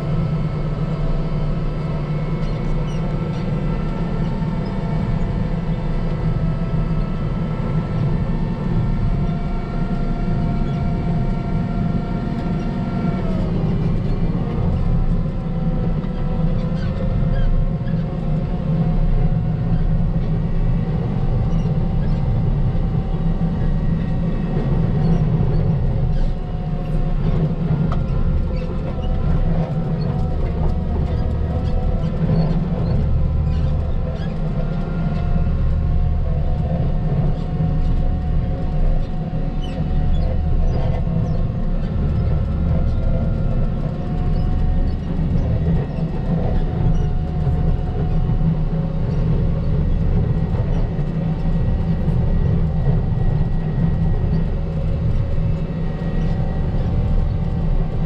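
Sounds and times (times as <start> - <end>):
diesel engine rumbling under load: 0.0 - 58.0.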